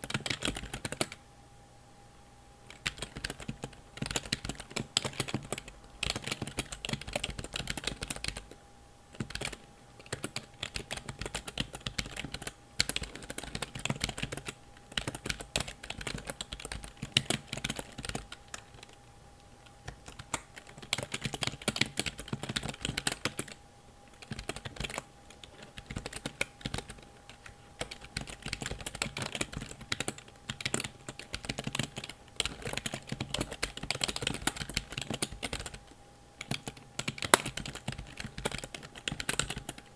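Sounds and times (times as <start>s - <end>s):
computer keyboard typing: 0.0s - 1.2s, 2.7s - 19.0s, 19.6s - 39.9s.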